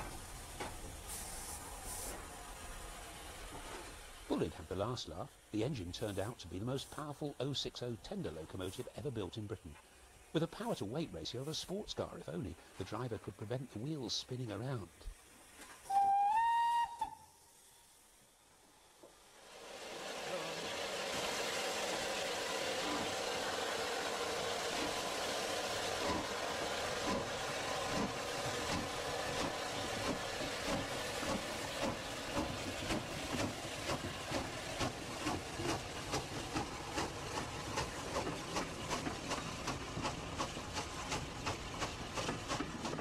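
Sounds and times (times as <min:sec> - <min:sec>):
steam locomotive exhaust chuffs: 0:00.0 - 0:14.7, 0:15.9 - 0:43.0
steam hissing: 0:00.0 - 0:43.0.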